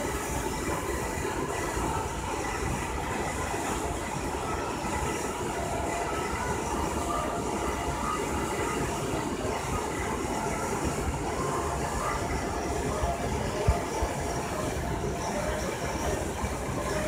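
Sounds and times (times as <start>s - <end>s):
steady rumbling background noise: 0.0s - 17.0s.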